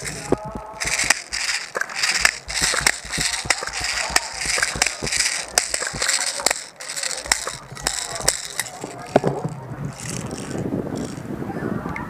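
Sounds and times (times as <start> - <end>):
equipment rattling: 0.0 - 11.2
footsteps on grass: 0.0 - 11.2
sharp clicks and knocks: 0.0 - 11.2.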